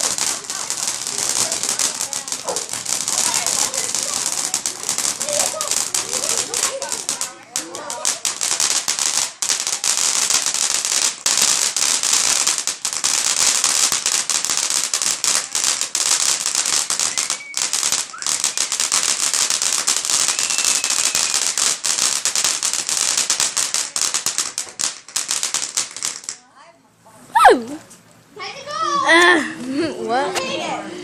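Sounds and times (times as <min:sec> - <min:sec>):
fireworks crackling: 0:00.0 - 0:26.5, 0:27.3 - 0:30.7.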